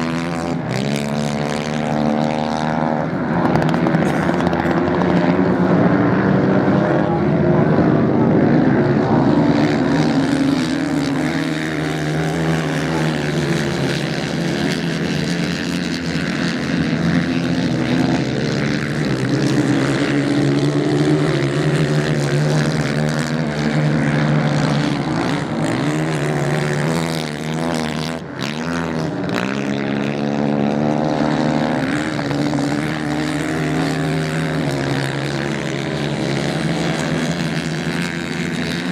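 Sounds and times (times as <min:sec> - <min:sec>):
racing motorcycle engines revving: 0:00.0 - 0:38.9.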